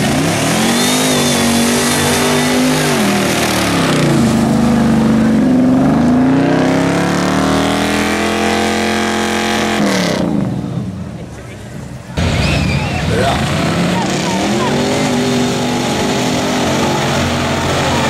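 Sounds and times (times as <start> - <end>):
jeep engine revving hard: 0.0 - 10.5, 13.1 - 18.0.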